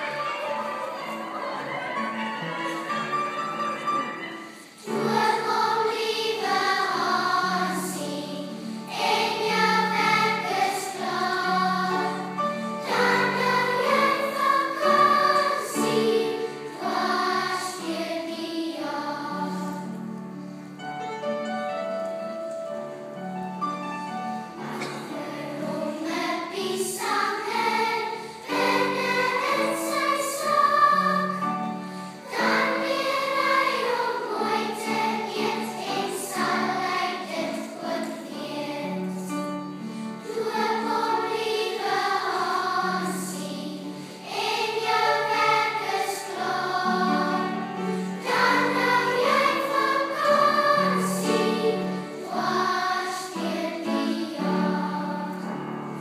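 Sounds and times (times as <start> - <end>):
choir singing: 0.0 - 20.2, 24.2 - 56.0.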